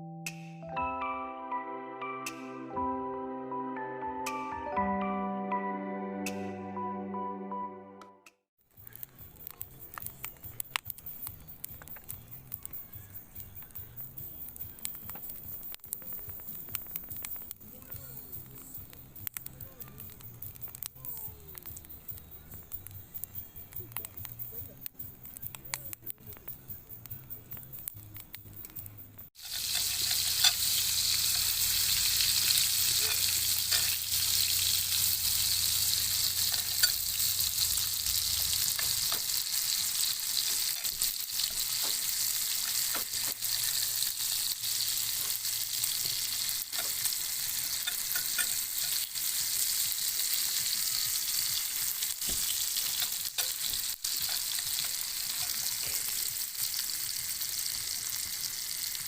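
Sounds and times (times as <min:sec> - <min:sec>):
campfire crackling: 0:08.7 - 0:59.0.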